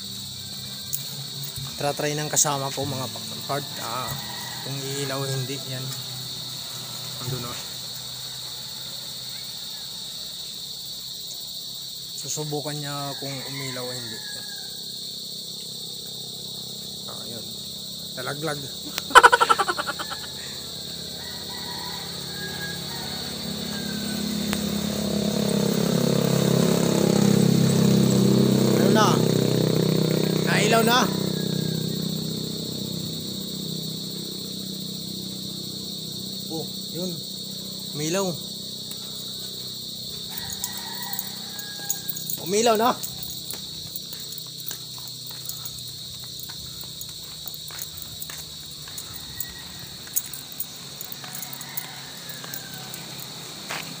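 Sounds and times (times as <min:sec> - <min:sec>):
vehicle engine approaching: 0:00.0 - 0:09.7, 0:16.4 - 0:54.0
insects trilling: 0:00.0 - 0:54.0.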